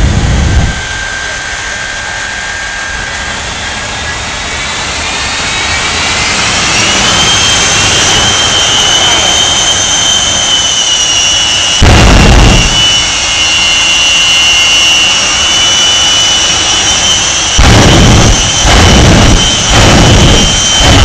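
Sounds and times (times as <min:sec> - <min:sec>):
jet engine turbine whine: 0:00.0 - 0:21.0
loud deep exhaust blast: 0:00.0 - 0:21.0.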